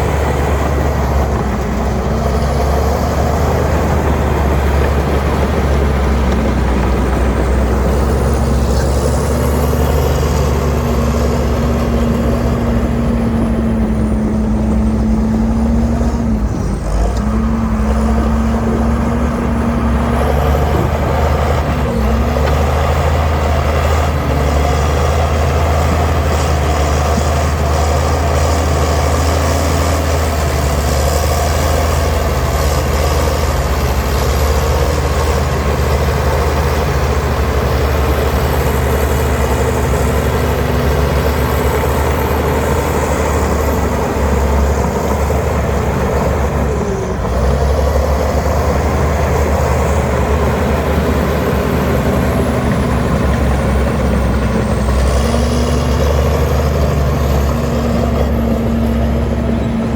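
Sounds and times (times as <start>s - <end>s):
heavy diesel engine rumbling: 0.0s - 59.9s.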